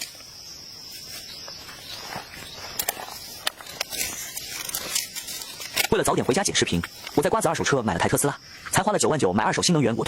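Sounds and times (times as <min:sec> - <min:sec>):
high-pitched insect buzz: 0:00.0 - 0:08.7.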